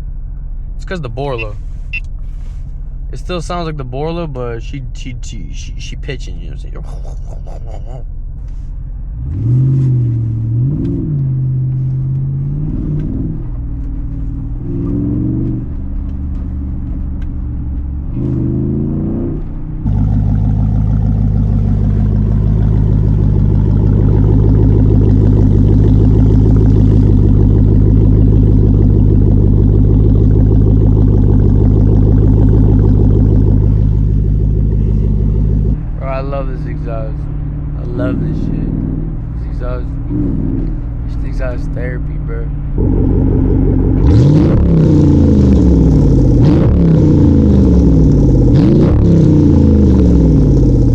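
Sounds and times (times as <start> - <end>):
car engine revving: 0.0 - 50.9
engine droning at constant revs: 0.0 - 50.9.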